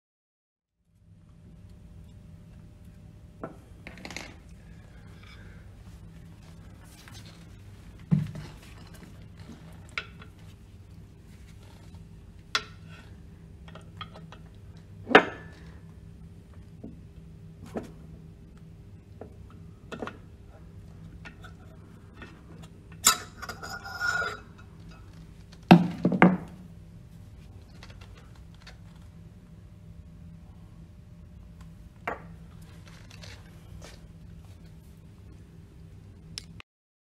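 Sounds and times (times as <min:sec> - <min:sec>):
faint steady hum: 0:00.8 - 0:36.6.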